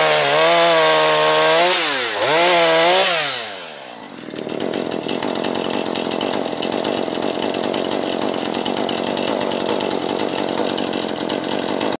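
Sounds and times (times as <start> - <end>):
chainsaw running at high revs: 0.0 - 12.0.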